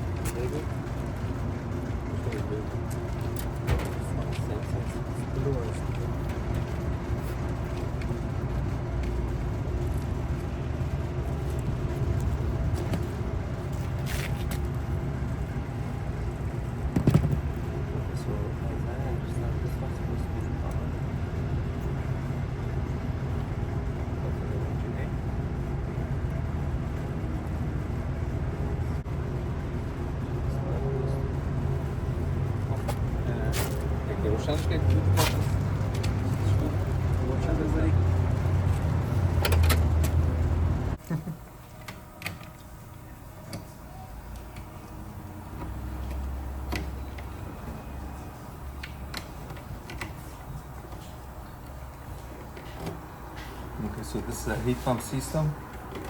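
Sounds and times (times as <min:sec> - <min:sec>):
low mechanical rumble: 0:00.0 - 0:56.0
steady low hum: 0:00.0 - 0:56.0.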